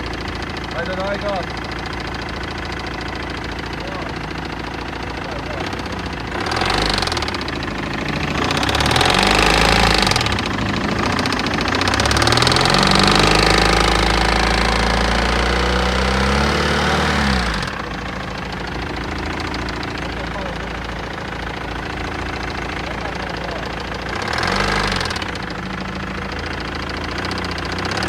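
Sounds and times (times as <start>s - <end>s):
diesel engine revving and idling: 0.0s - 28.0s.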